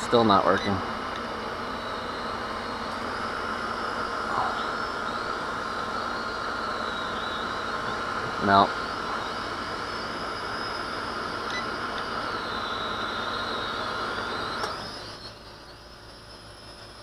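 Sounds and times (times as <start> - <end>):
toy drone motors whirring: 0.0 - 17.0.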